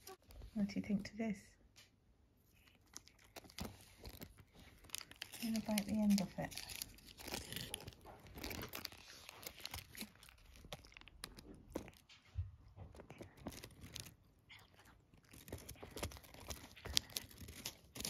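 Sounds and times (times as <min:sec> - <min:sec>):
plastic wrapper crinkling: 0:02.4 - 0:18.0
cat chewing treat: 0:02.5 - 0:18.0.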